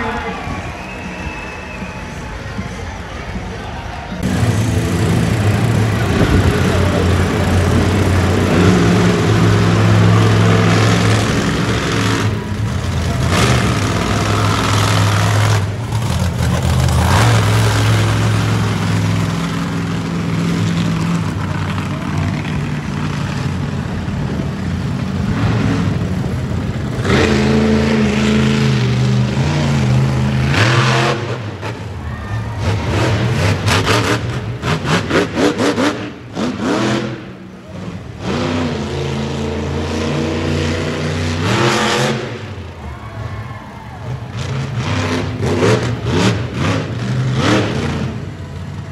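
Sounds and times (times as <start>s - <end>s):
monster truck engine revving: 3.7s - 48.9s.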